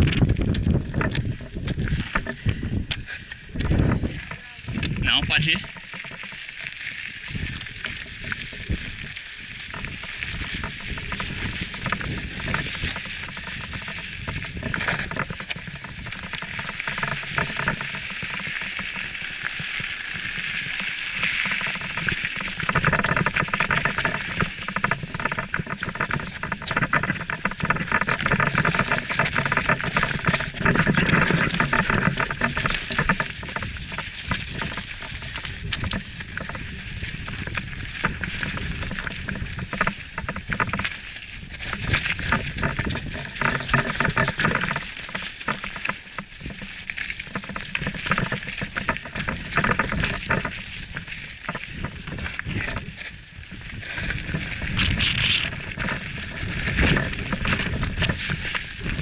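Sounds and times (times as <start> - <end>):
bike tyres crunching over gravel: 0.0 - 59.0.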